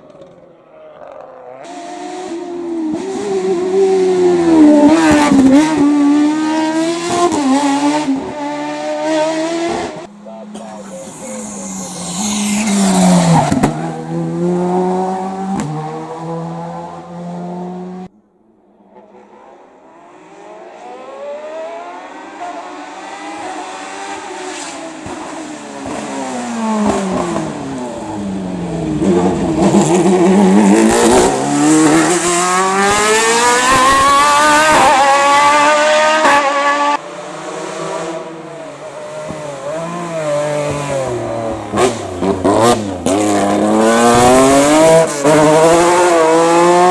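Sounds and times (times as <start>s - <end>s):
race car revving through gears: 0.0s - 18.1s, 18.9s - 46.9s
race car engine at full throttle: 0.0s - 46.9s.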